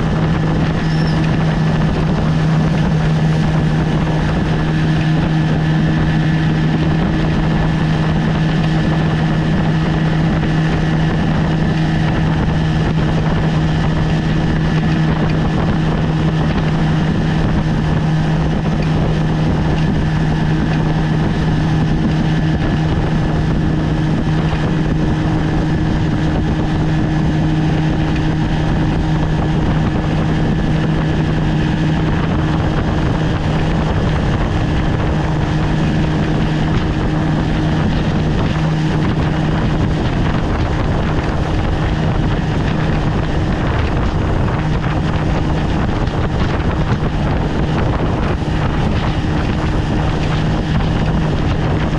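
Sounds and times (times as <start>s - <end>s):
outboard motor running: 0.0s - 51.9s
wind on microphone: 0.0s - 51.9s.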